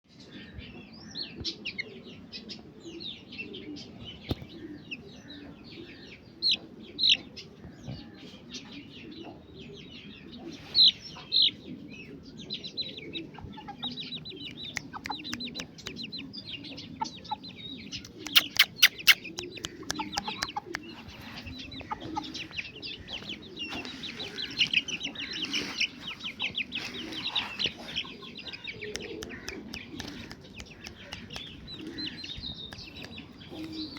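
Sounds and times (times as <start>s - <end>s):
chickens clucking: 3.8s - 9.7s, 10.3s - 33.9s.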